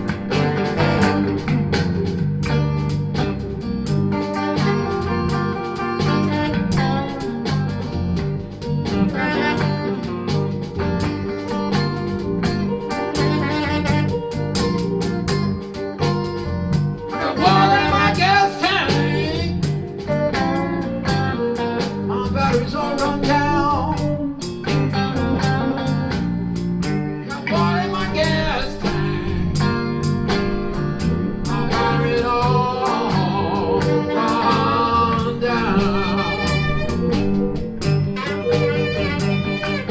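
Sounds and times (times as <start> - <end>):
blues band playing: 0.0 - 39.9
lead guitar line with bends: 0.0 - 39.9.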